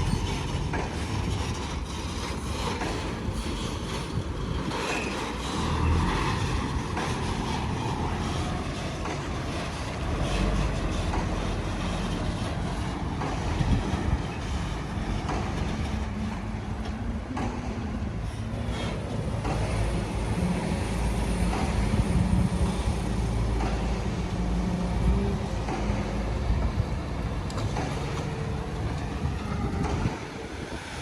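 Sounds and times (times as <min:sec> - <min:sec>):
diesel machinery engine drone: 0:00.0 - 0:31.0.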